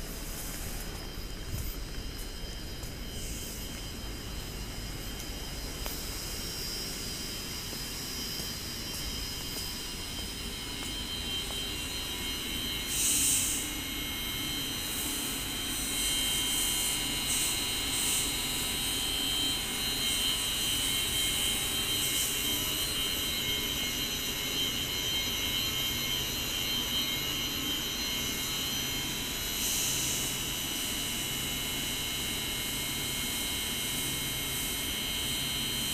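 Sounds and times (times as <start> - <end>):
hiss: 0.0 - 24.0, 28.2 - 33.4
chiller machine drone: 0.0 - 35.9.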